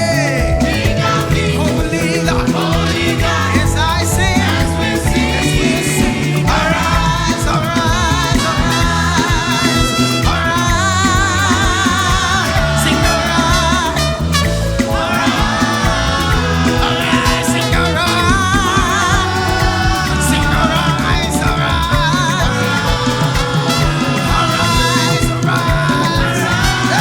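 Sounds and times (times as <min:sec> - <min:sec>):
band playing upbeat groove: 0:00.0 - 0:27.0
person singing: 0:00.0 - 0:27.0.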